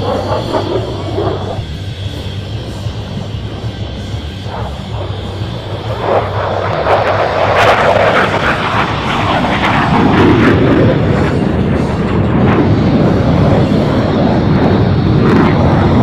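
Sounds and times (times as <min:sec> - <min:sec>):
fighter jet passing low: 0:00.0 - 0:16.0.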